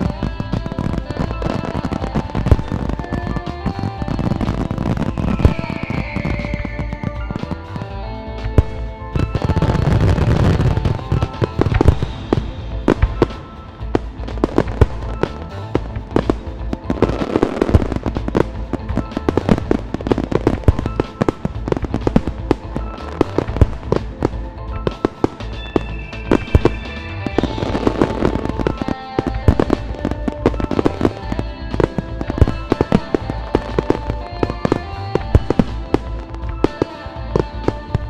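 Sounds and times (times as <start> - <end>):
fireworks banging: 0.0 - 38.0
fireworks crackling: 0.0 - 38.0
music playing: 0.0 - 38.0.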